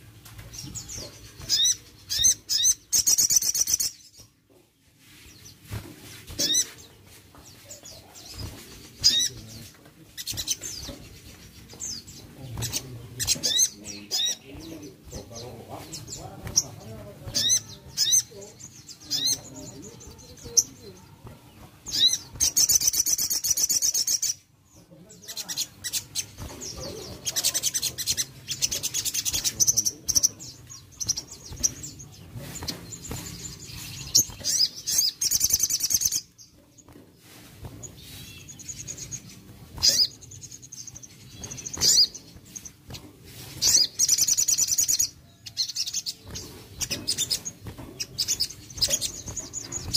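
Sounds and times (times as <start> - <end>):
bird trilling song: 0.0 - 4.4, 5.1 - 49.9.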